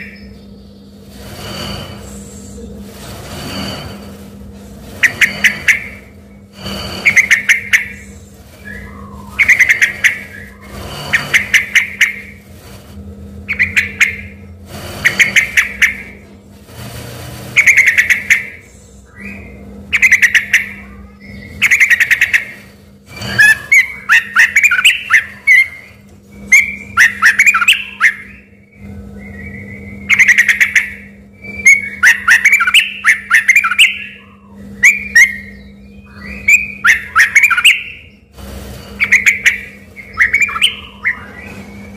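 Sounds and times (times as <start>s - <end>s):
bulbul singing: 0.0s - 1.1s, 5.0s - 12.4s, 13.4s - 16.2s, 17.6s - 38.3s, 38.9s - 41.9s.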